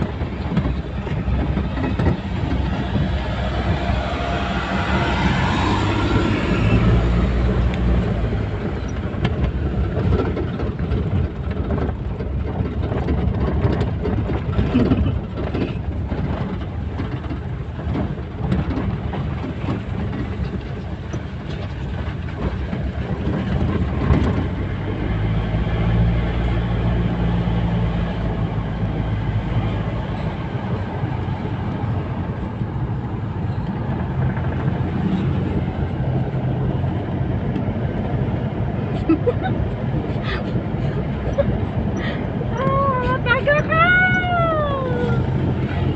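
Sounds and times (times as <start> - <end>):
engine hum: 0.0 - 45.9
vehicle engine and road rumble: 0.0 - 45.9.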